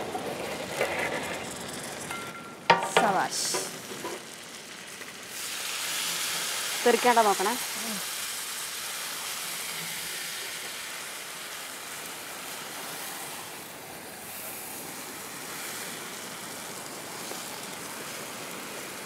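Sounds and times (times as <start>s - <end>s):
chicken frying in hot oil: 2.7s - 19.0s.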